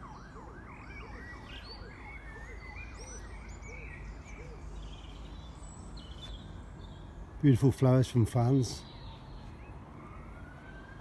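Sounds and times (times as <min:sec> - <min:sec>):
distant wailing siren: 0:00.0 - 0:07.4, 0:08.0 - 0:11.0.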